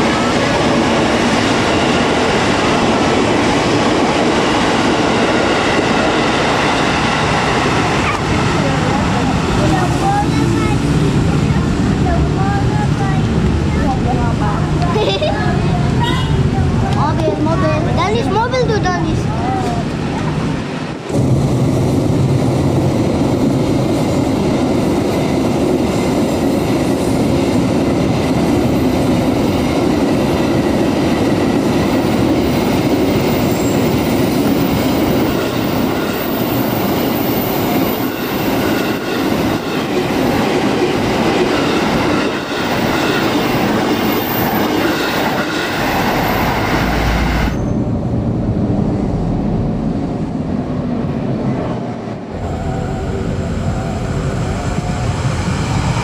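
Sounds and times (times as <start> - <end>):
freight train wheels clattering on rails: 0.0 - 15.3, 15.9 - 48.2.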